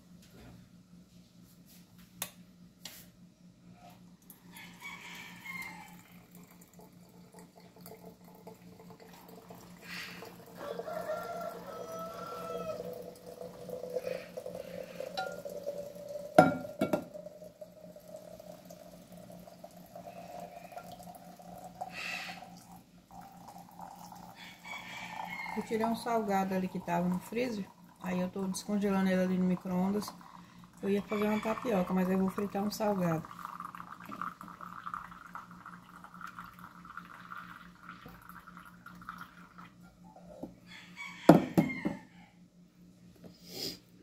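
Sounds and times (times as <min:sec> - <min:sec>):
hot water trickling and dripping: 0:03.9 - 0:40.2.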